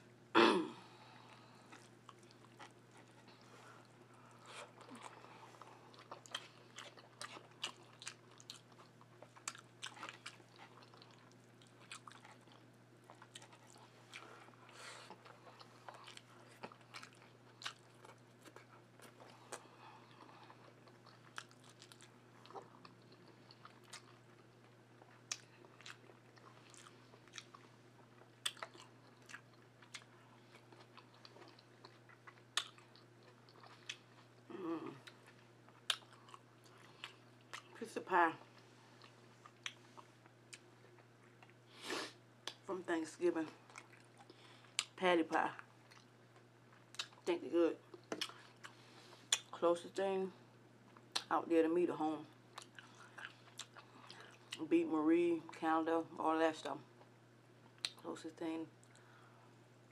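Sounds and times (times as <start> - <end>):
faint low hum: 0.0 - 59.9
wet chewing and lip-smacking: 1.3 - 37.8, 38.4 - 41.6, 42.4 - 42.7, 43.5 - 45.0, 45.6 - 49.6, 50.9 - 51.3, 52.5 - 54.6, 57.0 - 58.0.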